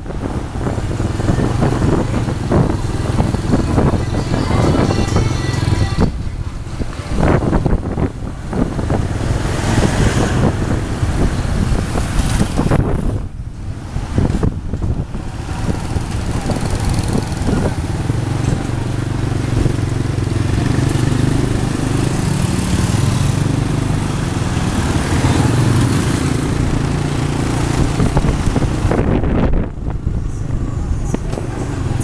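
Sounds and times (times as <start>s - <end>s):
motorbike engine humming: 0.0s - 32.0s
road noise: 0.0s - 32.0s.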